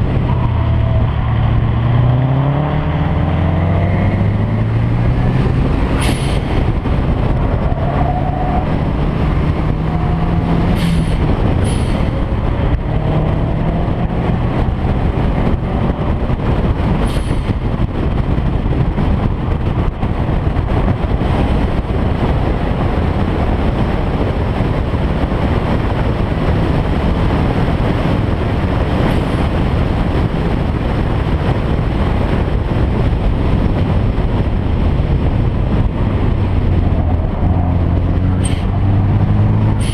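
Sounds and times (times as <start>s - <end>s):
car engine driven hard: 0.0s - 39.9s
road noise: 0.0s - 39.9s.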